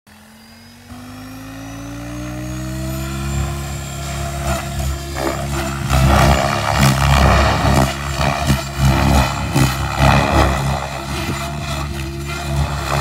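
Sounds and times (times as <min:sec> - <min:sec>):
electric motor whine: 0:00.1 - 0:13.0
helicopter rotor hum: 0:00.1 - 0:13.0.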